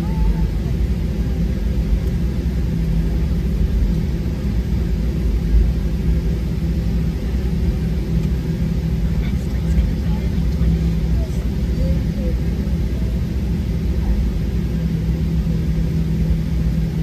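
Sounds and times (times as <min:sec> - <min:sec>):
airplane cabin rumble: 0:00.0 - 0:17.0
jet engines idling hum: 0:00.0 - 0:17.0.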